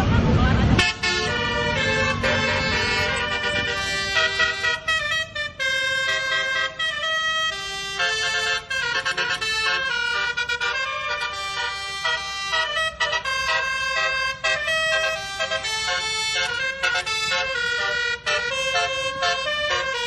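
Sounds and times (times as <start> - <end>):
bus air horn playing a melody: 0.1 - 20.0.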